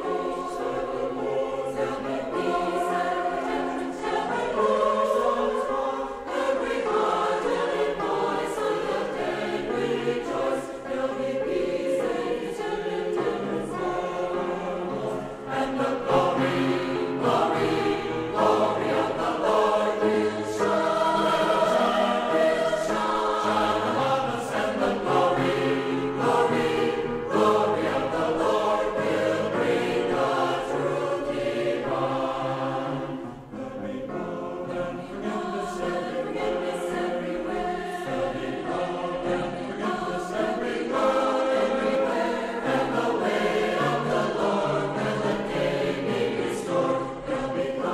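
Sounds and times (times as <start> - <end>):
choir singing held chords: 0.0 - 47.9.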